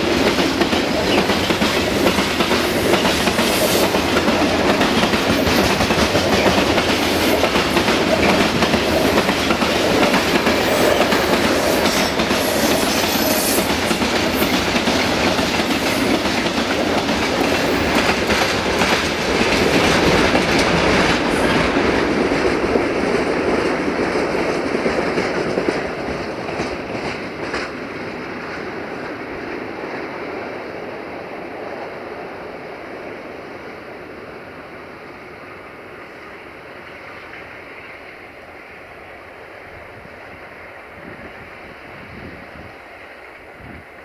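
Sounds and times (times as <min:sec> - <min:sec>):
train wheels clickety-clack: 0:00.0 - 0:33.6, 0:35.7 - 0:44.0.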